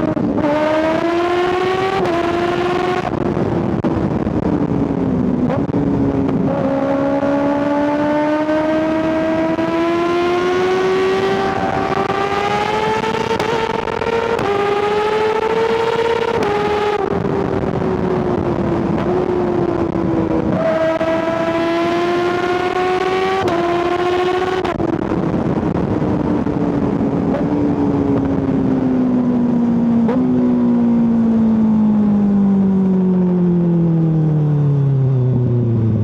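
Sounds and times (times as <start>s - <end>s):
motorcycle engine revving: 0.0s - 32.8s.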